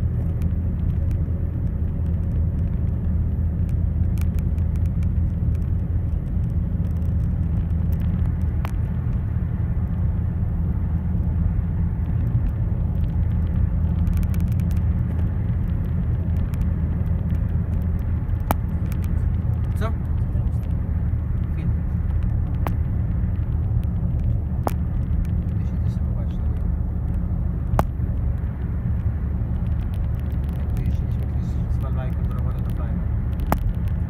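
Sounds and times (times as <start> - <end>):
car interior road rumble: 0.0 - 34.0.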